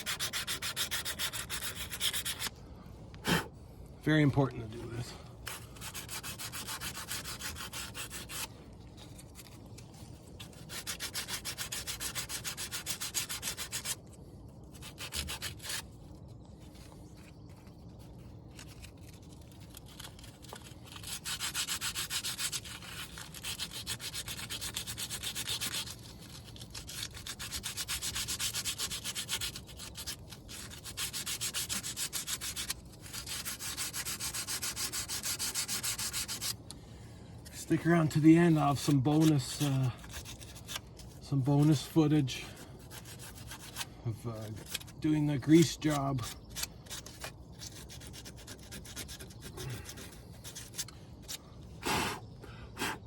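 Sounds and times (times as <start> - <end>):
sandpaper rubbing: 0.0 - 2.6, 4.7 - 36.6, 37.4 - 52.2.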